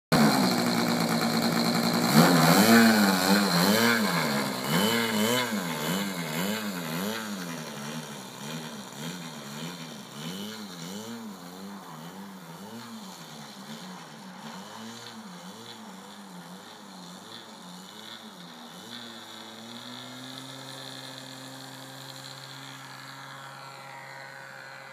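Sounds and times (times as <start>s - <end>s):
model aeroplane motor buzzing: 0.2s - 24.9s.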